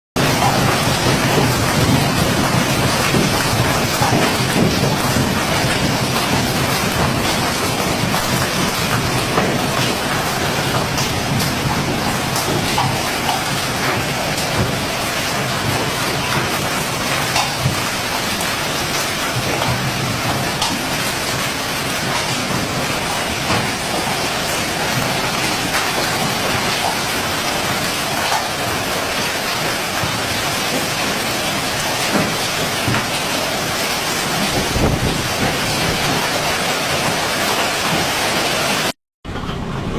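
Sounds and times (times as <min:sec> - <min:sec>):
hailstones striking hard surfaces: 0:00.2 - 0:38.9
heavy rain pelting: 0:00.2 - 0:39.9.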